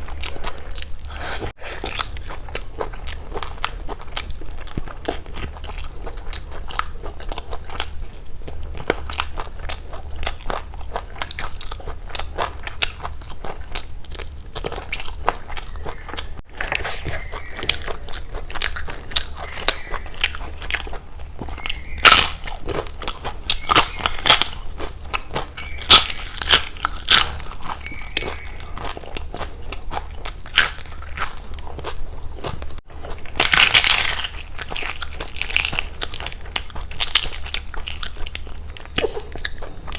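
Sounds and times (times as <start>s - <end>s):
wet chewing with crunches: 0.0s - 39.9s.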